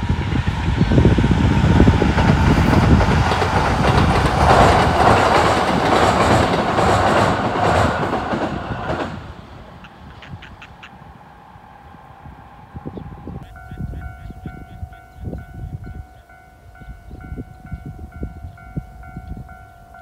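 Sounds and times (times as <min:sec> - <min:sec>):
train running on rails: 0:00.0 - 0:20.0.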